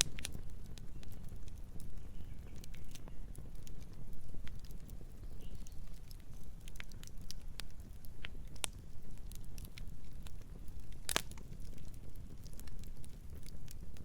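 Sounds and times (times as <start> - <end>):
burning wood crackles and pops: 0.0 - 14.0
low rumble of flames: 0.0 - 14.0.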